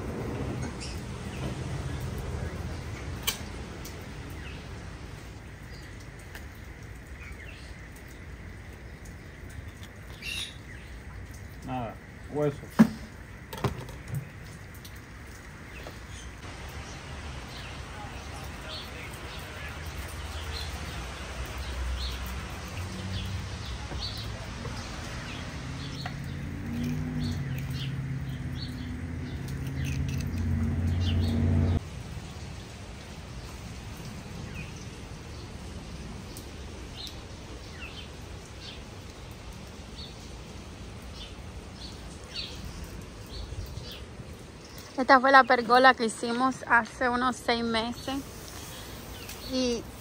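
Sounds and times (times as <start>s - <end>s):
small birds chirping: 0.6s - 32.7s, 33.3s - 50.0s.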